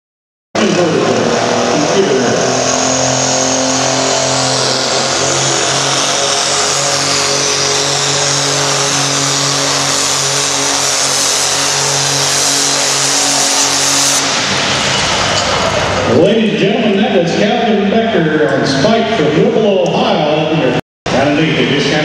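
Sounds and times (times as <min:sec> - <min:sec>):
diesel tractor engine running hard: 0:00.6 - 0:22.0.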